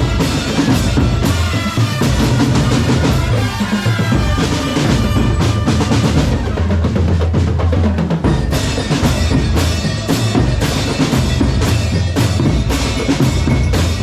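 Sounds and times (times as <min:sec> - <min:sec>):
bass and snare drums: 0:00.0 - 0:14.0
melody over drums: 0:00.0 - 0:14.0.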